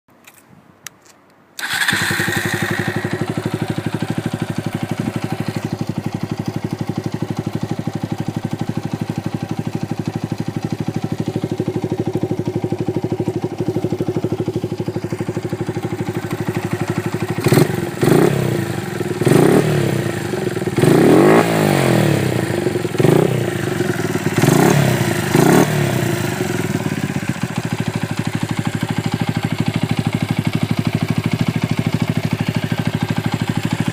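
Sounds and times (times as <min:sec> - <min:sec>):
motorcycle engine idling and revving: 0:01.6 - 0:33.9.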